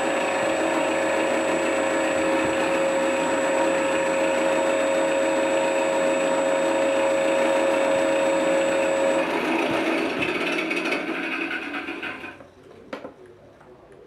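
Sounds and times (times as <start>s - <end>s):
simulated aircraft engine idling: 0.0s - 12.3s.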